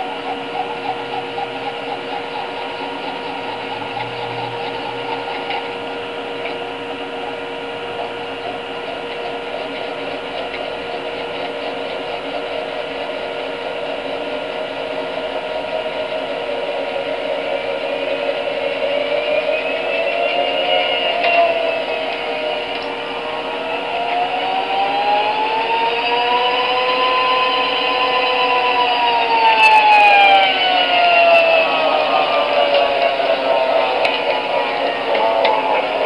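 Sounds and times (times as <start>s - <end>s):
rising whining tone: 0.0s - 36.0s
wrist gyroscope whirring: 0.0s - 36.0s.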